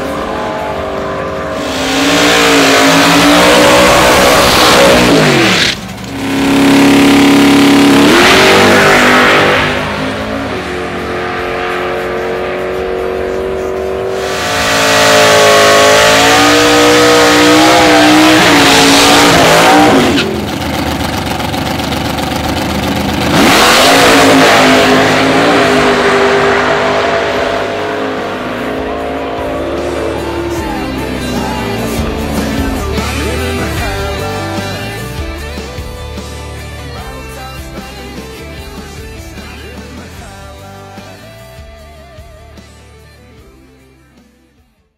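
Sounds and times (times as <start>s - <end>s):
engines revving hard: 0.0s - 36.6s
engine running: 0.0s - 43.2s.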